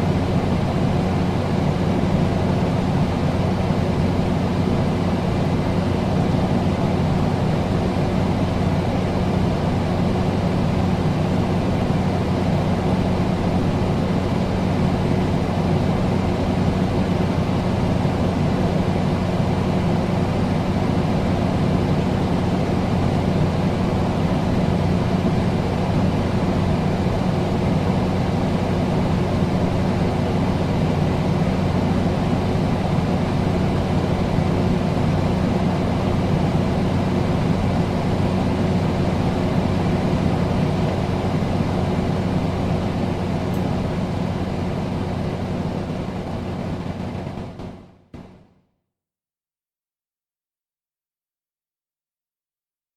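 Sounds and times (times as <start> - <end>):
air conditioner running: 0.0 - 48.4.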